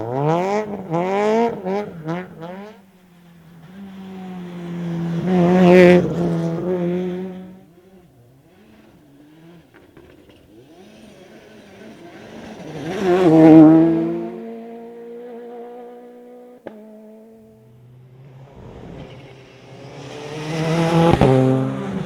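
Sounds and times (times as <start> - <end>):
rally car passing at speed: 0.0 - 22.0.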